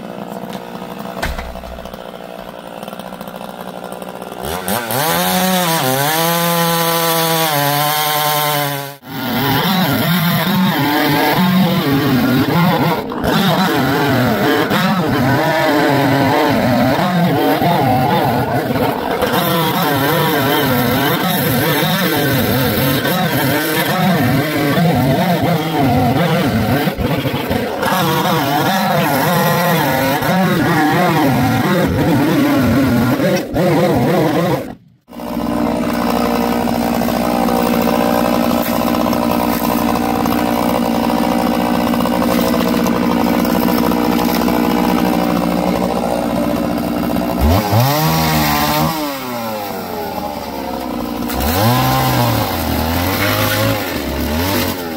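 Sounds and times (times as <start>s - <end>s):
chainsaw running: 0.0s - 54.9s.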